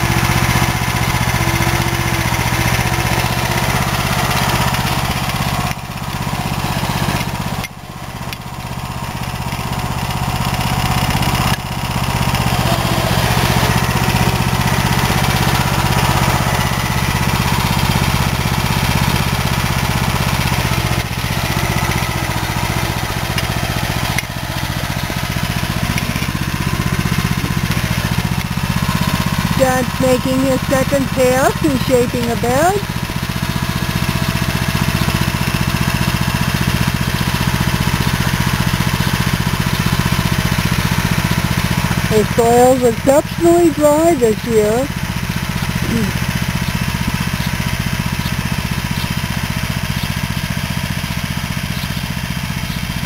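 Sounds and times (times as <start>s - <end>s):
walk-behind tractor engine running: 0.0s - 53.0s.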